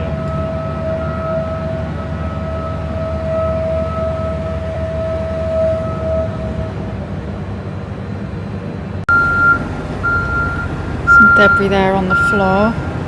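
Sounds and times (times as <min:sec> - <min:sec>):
high machine whine: 0:00.0 - 0:07.6, 0:09.1 - 0:13.0
low engine rumble: 0:00.0 - 0:13.0.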